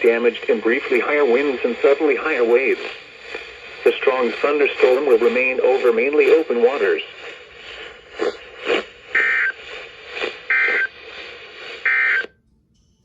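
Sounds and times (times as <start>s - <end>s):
radio hiss: 0.0s - 12.3s
soft crackles: 0.0s - 12.3s.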